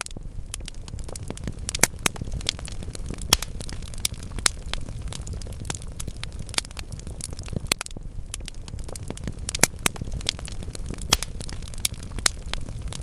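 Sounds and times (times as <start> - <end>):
logs crackling in fireplace: 0.0 - 13.0
low rumble of flames: 0.0 - 13.0.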